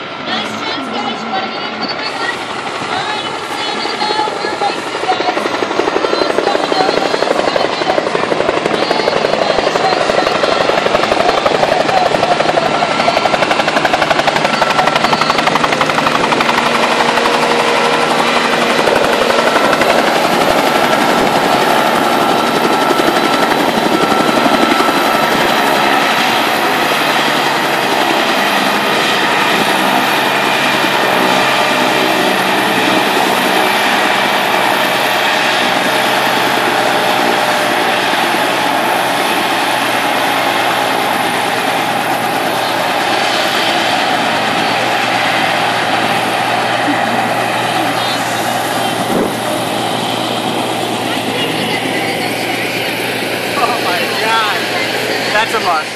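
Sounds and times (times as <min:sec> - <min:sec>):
helicopter rotor chopping: 0:00.0 - 0:55.9.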